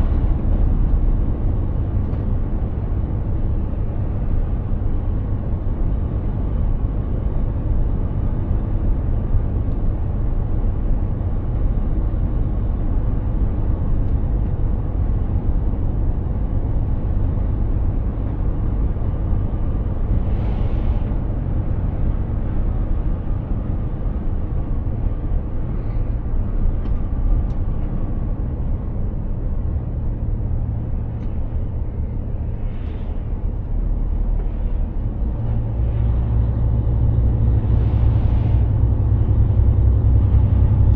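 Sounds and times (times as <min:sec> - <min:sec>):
road noise: 0:00.0 - 0:40.9
truck diesel engine rumbling: 0:00.0 - 0:40.9.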